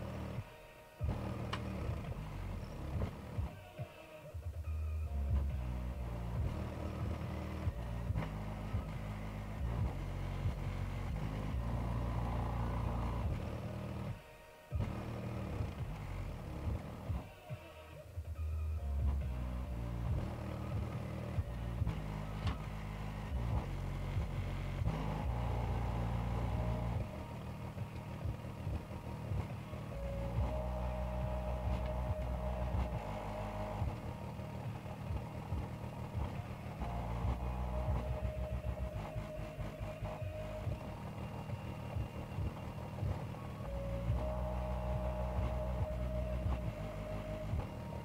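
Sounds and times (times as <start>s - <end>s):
bass-heavy music through woofer: 0.0s - 48.0s.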